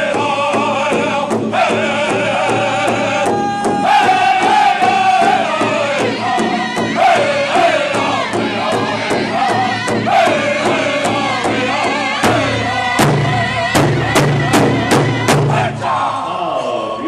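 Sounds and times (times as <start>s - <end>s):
large hide drum beating: 0.0s - 15.9s
group singing in unison: 0.0s - 17.0s.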